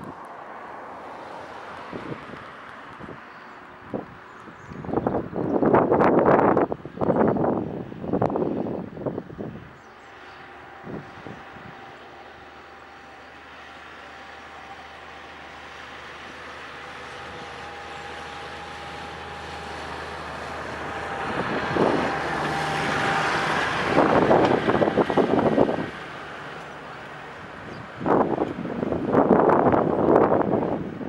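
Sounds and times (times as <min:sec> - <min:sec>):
wind gusts on microphone: 0:00.0 - 0:13.4, 0:15.7 - 0:31.0
turboprop airliner engines: 0:00.0 - 0:31.0.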